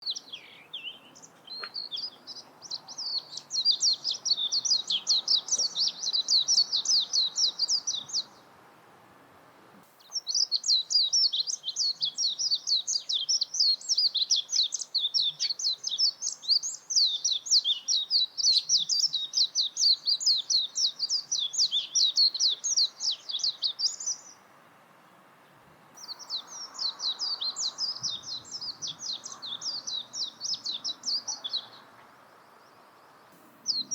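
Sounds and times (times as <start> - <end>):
bird twittering warble: 0.0 - 8.4, 10.0 - 24.4, 26.0 - 33.9.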